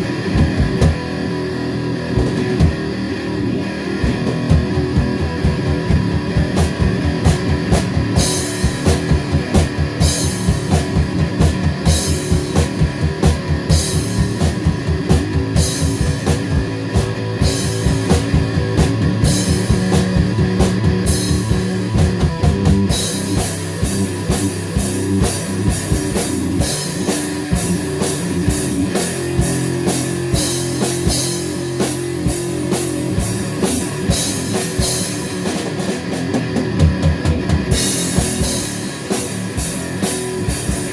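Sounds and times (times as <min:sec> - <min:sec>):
rock music: 0:00.0 - 0:40.9.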